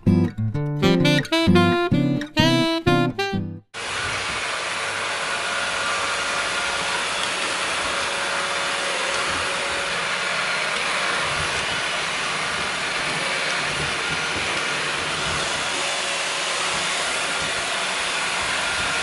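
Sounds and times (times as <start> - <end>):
robot vacuum whirring: 3.8 - 19.0.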